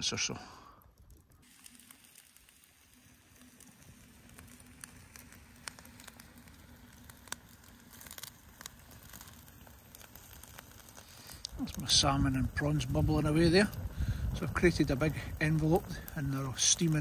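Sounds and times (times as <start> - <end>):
campfire crackling: 0.0 - 17.0
sharp fire pops: 0.0 - 17.0.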